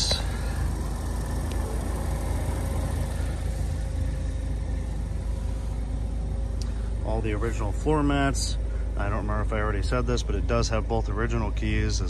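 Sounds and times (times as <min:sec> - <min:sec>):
car engine idling: 0:00.0 - 0:12.0
faint hum: 0:00.0 - 0:12.0.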